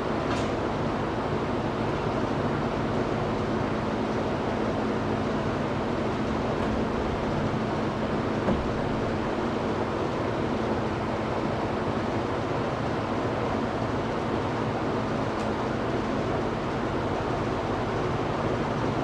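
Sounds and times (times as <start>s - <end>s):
machine droning: 1.2s - 19.0s.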